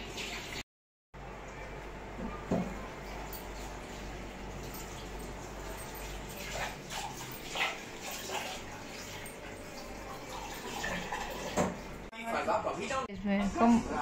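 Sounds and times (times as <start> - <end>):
water running at a sink: 0.0 - 0.6, 1.5 - 12.1.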